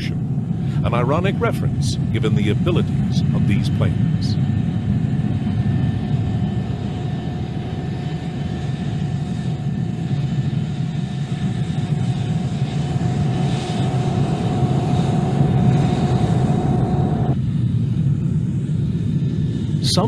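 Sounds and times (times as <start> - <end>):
faint steady whine: 0.0 - 20.0
jet engines running at low power: 0.0 - 20.0.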